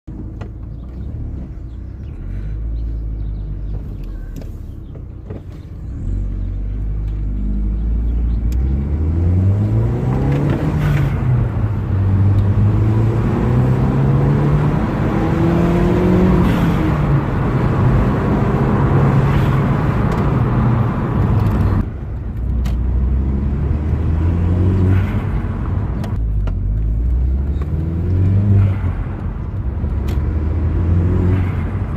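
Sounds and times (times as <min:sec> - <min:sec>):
engine idling and revving: 0:00.1 - 0:31.9.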